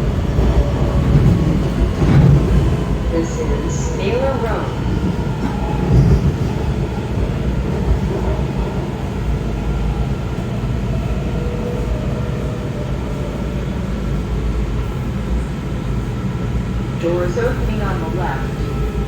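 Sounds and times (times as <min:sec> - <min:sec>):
subway car rumbling on track: 0:00.0 - 0:19.0.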